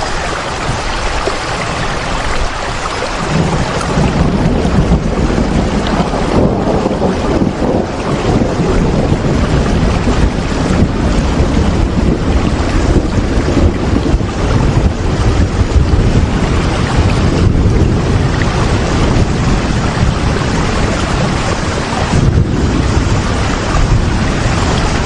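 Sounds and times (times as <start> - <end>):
steady rain hiss: 0.0 - 25.0
low rumble: 3.2 - 25.0.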